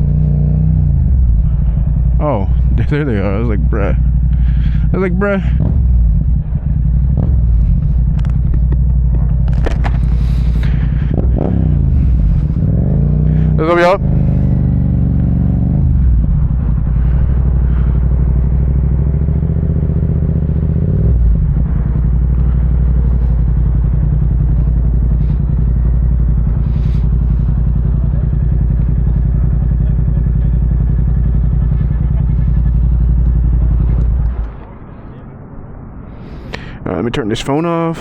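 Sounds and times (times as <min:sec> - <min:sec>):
motorcycle engine idling: 0:00.0 - 0:35.3.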